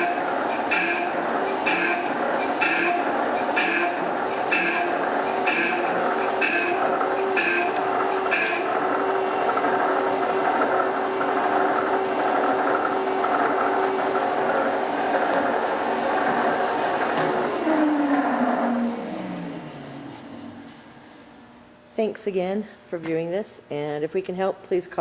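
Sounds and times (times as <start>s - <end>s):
electric motor winding down: 0.0s - 21.6s.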